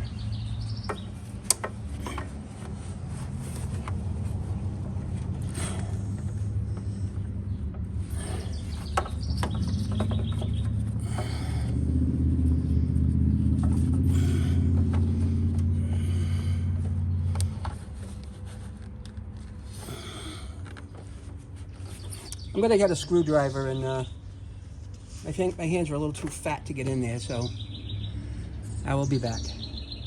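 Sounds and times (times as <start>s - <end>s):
engine rumble and hum: 0.0s - 30.0s.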